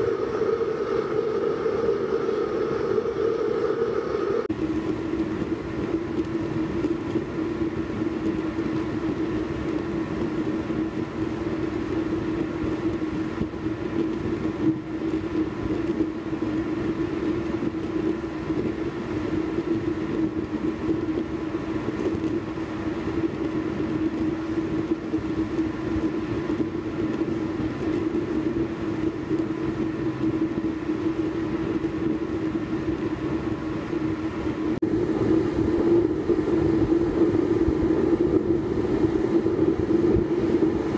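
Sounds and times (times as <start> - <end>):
stove burning with roaring drone: 0.0 - 40.9.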